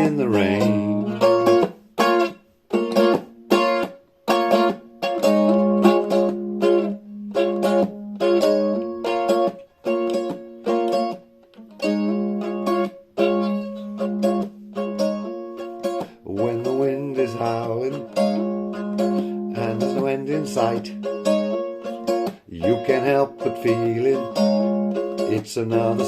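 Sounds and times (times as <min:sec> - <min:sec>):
strummed string instrument chords: 0:00.0 - 0:26.0.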